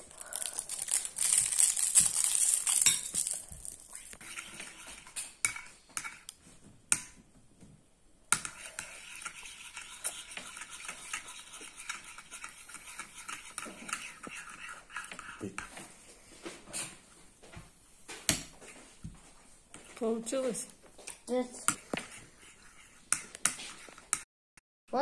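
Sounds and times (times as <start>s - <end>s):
spoon stirring thick mixture: 0.0s - 7.2s, 8.3s - 16.9s, 18.1s - 24.2s.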